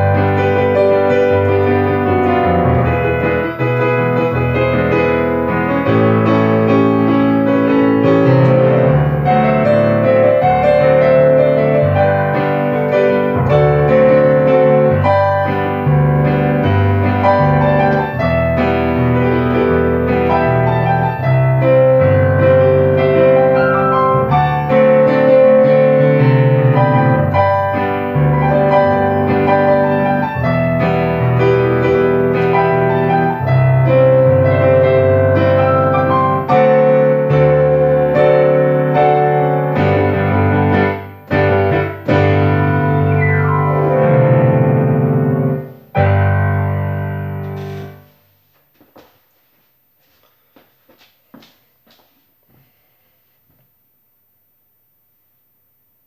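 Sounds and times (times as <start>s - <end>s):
solo piano playing: 0.0s - 48.4s.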